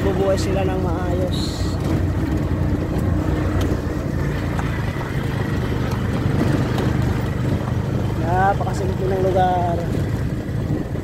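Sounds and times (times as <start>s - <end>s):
motorcycle engine rumbling: 0.0s - 11.0s
tyres on gravel road: 0.0s - 11.0s.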